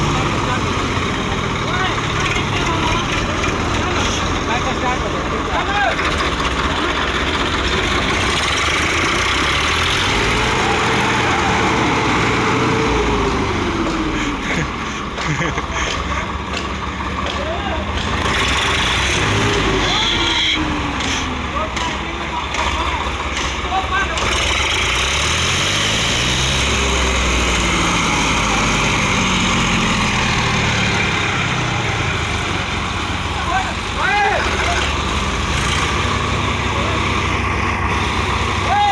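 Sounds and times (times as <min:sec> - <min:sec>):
diesel tractor engines under heavy load: 0:00.0 - 0:38.9.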